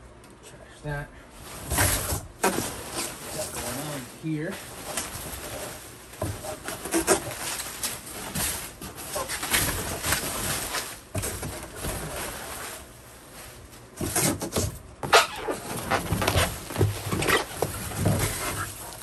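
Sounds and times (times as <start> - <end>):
bubble wrap rustling and crinkling: 1.4 - 19.0.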